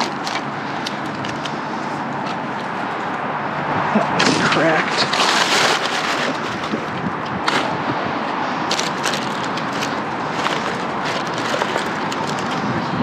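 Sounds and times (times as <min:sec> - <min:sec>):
rummaging through items in dumpster: 0:00.0 - 0:03.0, 0:04.2 - 0:08.0, 0:08.6 - 0:13.0
steady rushing noise: 0:01.6 - 0:13.0.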